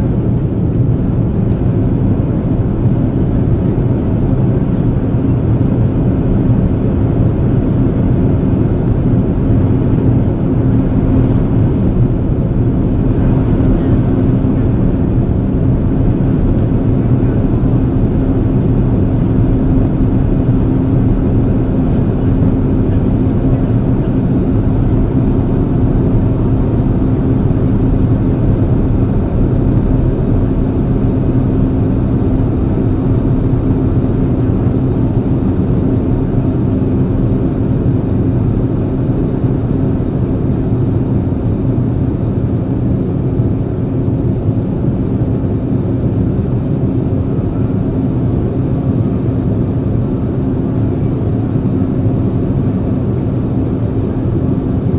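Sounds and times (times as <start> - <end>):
airliner cabin jet drone: 0.0 - 54.9
steady low hum: 0.0 - 54.9.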